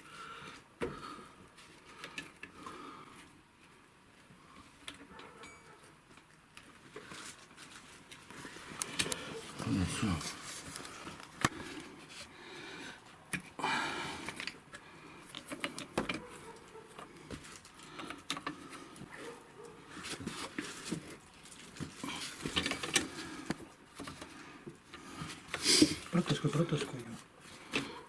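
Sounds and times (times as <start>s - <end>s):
rustling: 2.8s - 28.0s.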